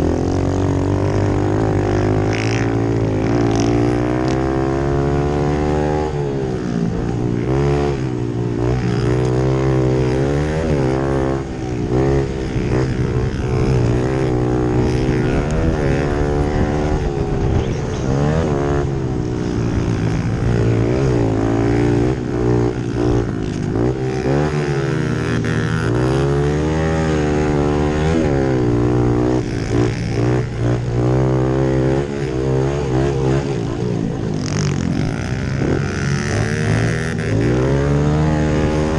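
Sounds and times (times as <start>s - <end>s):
pit bike engines racing: 0.0s - 38.9s.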